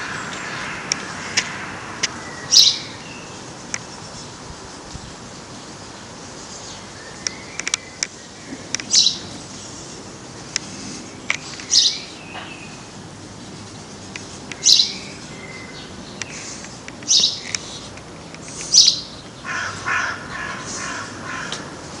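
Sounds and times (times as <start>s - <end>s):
birds calling: 0.0s - 22.0s
steady background hiss: 0.0s - 22.0s.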